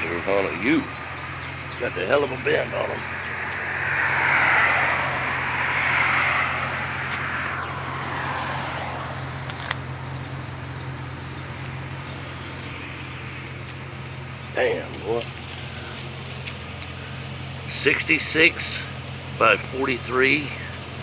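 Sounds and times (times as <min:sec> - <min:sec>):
steady low hum: 0:00.0 - 0:17.7
road vehicle passing: 0:00.0 - 0:21.0.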